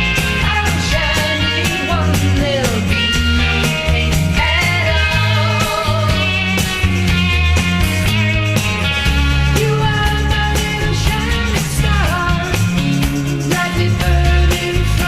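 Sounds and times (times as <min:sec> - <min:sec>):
guitar lead line bending: 0:00.0 - 0:15.0
psychedelic rock music: 0:00.0 - 0:15.0.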